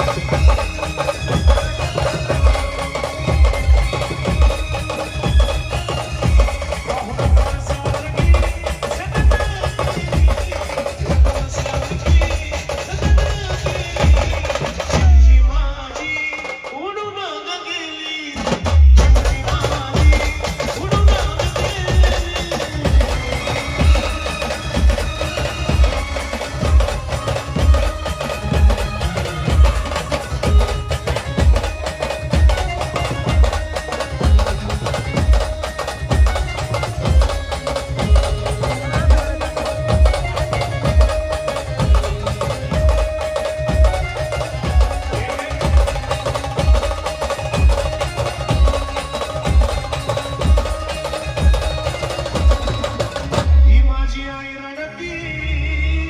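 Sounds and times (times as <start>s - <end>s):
bass drum beat: 0.0s - 15.8s, 18.7s - 54.1s.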